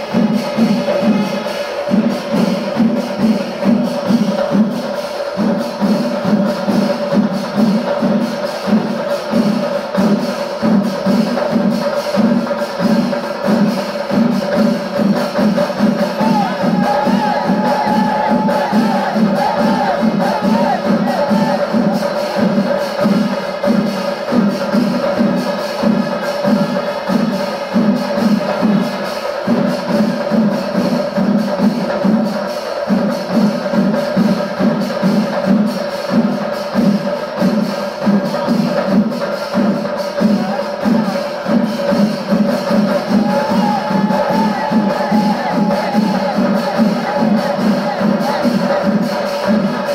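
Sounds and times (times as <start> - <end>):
cymbals ringing: 0.0 - 49.9
drums beating fast: 0.0 - 49.9.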